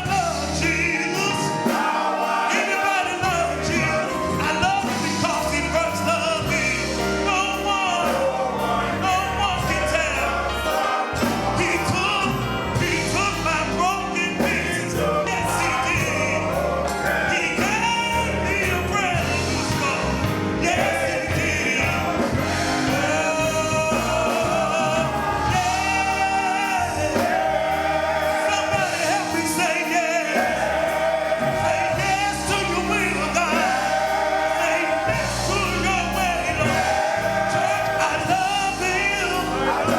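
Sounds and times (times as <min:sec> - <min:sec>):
bass: 0:00.0 - 0:01.8, 0:02.6 - 0:39.9
choir singing: 0:00.0 - 0:39.9
drums: 0:00.0 - 0:39.9.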